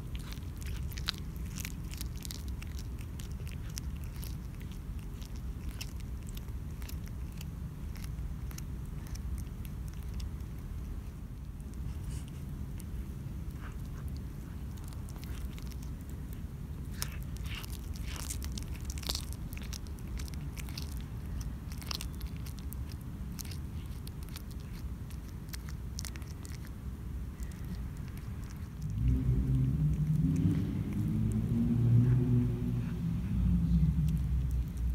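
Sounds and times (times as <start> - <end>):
cat chewing wet crunches: 0.0 - 34.9
steady low rumble: 0.0 - 34.9.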